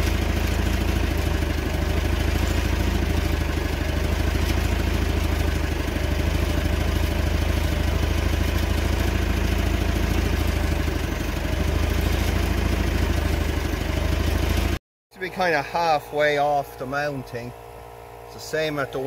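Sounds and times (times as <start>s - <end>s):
machine engine idling: 0.0s - 19.0s.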